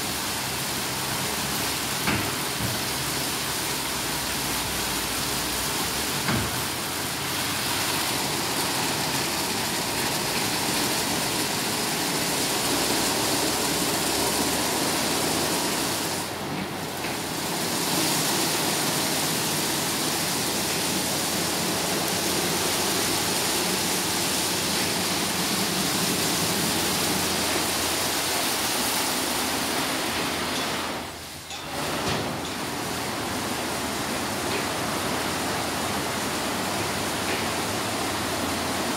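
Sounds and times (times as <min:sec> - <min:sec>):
water spray: 0:00.0 - 0:31.5.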